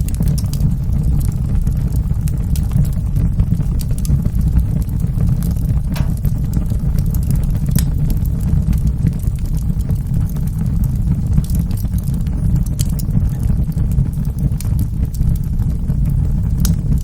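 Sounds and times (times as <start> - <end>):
fire crackling and popping: 0.0 - 17.0
low roar of flames: 0.0 - 17.0.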